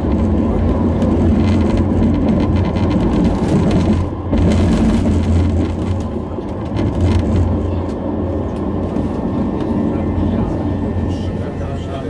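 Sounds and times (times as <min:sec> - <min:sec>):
tram rumble and hum: 0:00.0 - 0:12.0.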